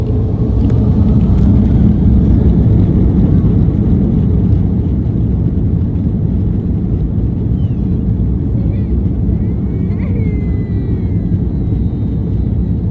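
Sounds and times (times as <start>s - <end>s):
jet airliner taking off: 0.0s - 12.9s.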